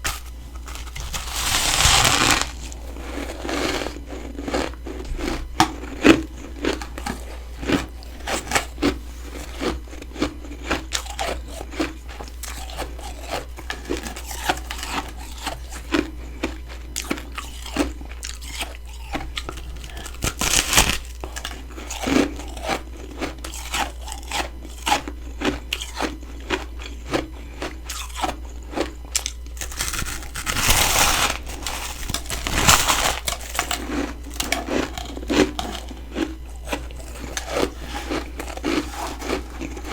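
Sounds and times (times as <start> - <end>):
person chewing crunchy frost: 0.0 - 39.9.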